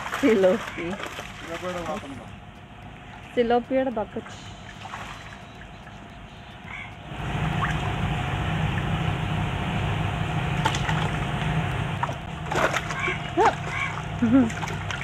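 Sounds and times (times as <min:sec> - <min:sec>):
electric water pump humming: 0:00.0 - 0:15.0.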